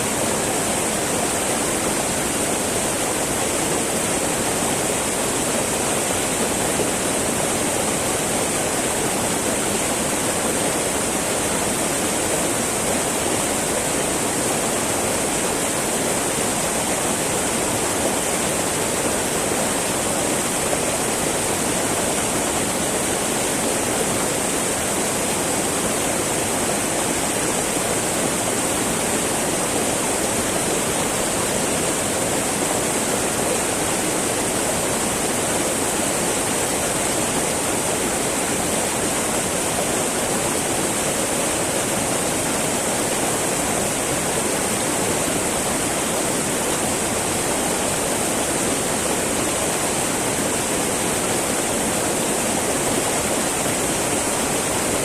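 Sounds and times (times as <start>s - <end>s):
river babbling over rocks: 0.0s - 55.0s.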